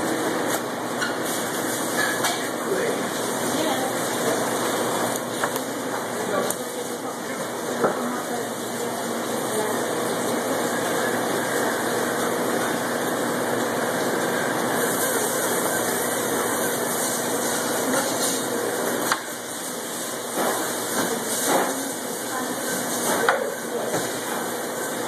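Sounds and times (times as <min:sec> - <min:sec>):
processing machinery: 0:00.0 - 0:25.0.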